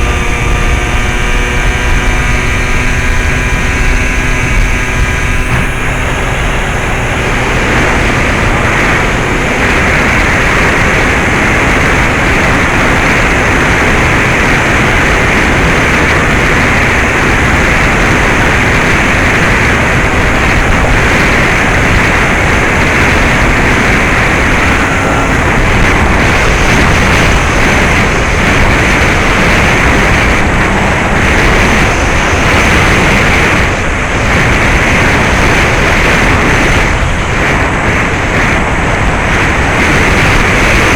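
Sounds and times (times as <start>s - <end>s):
propeller noise: 0.0s - 40.9s
rushing airflow: 0.0s - 40.9s.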